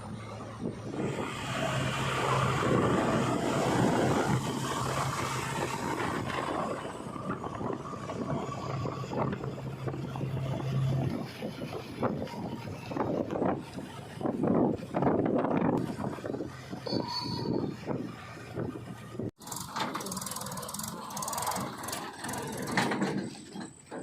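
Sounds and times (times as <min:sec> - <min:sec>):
diesel machinery engine humming: 0:00.0 - 0:24.0.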